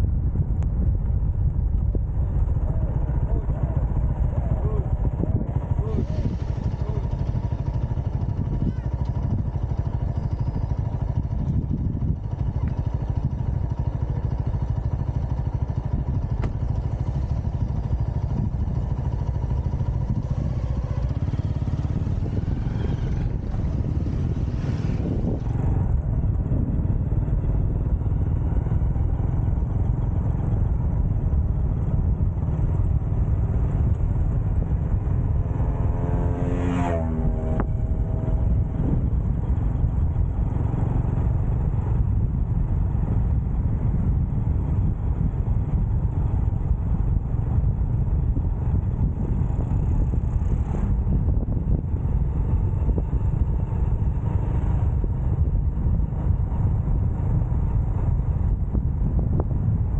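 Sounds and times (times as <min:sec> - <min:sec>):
motorcycle engine: 0:00.0 - 0:59.9
wind rumble on microphone: 0:00.0 - 0:59.9.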